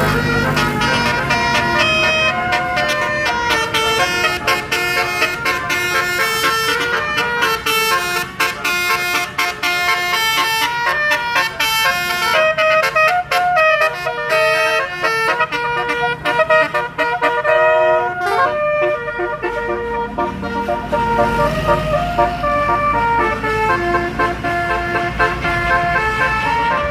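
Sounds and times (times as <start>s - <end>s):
melody horn playing a tune: 0.0s - 26.9s.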